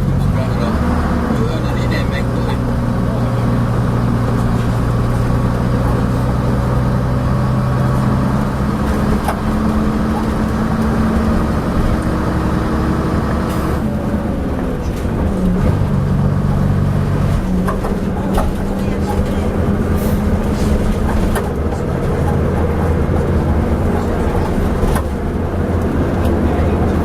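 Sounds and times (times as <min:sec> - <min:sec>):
bus engine running: 0:00.0 - 0:27.0.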